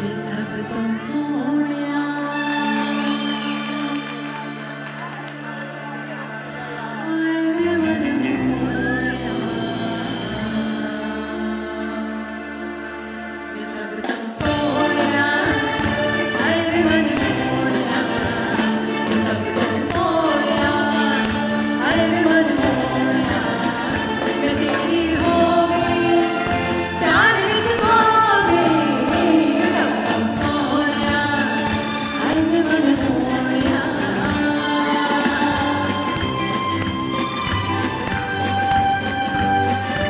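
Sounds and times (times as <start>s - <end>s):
woman singing: 0.0s - 4.5s, 6.6s - 12.5s, 13.4s - 36.9s
live band playing: 0.0s - 40.0s.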